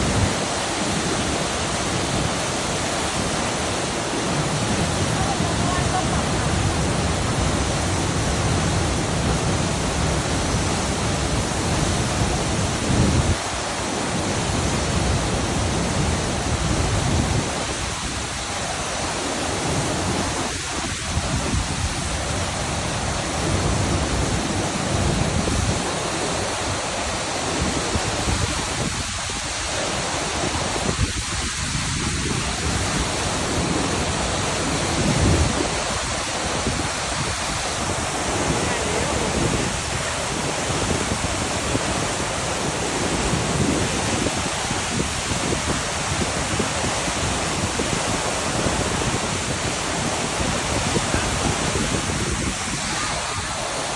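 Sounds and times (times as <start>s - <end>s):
waterfall rushing: 0.0s - 53.9s
wind rumbling on microphone: 0.0s - 53.9s.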